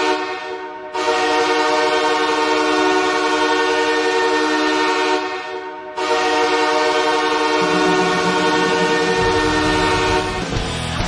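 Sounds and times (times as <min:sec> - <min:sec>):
arena goal horn blasts: 0:00.0 - 0:10.5.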